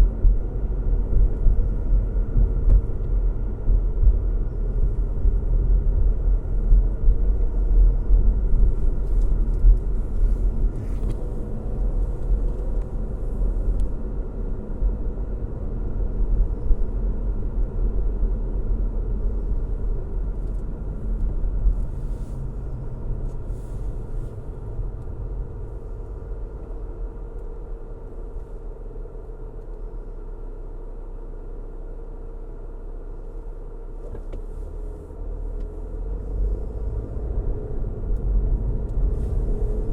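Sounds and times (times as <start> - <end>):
car engine hum: 0.0 - 39.9
car road rumble: 0.0 - 39.9.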